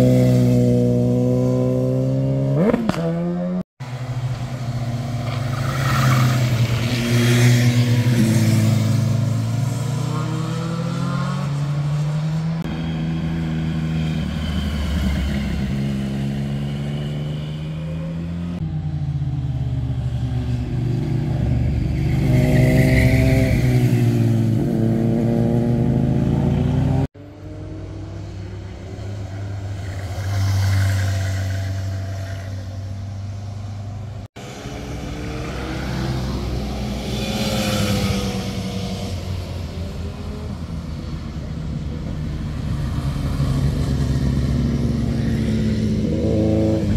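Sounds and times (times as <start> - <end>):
motorcycles passing through a bend: 5.2 - 33.0, 34.4 - 46.9.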